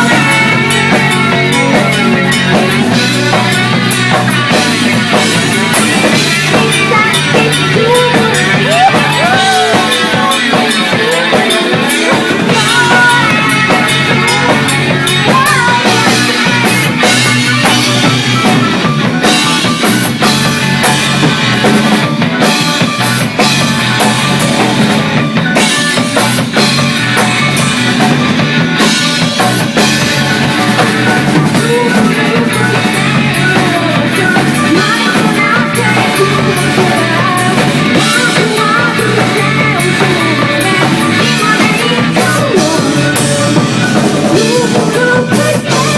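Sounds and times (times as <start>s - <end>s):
loud rock music: 0.0s - 45.9s.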